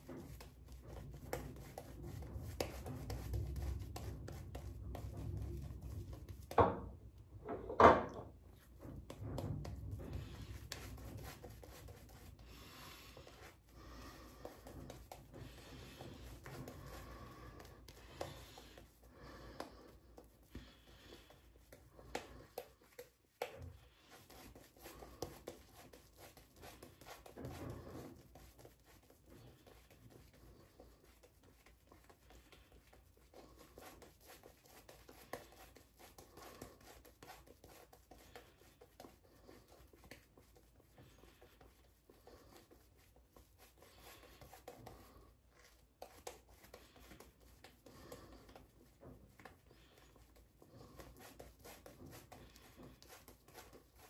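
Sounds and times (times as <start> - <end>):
shaving brush swishing on skin: 0.0 - 6.6, 8.6 - 54.0.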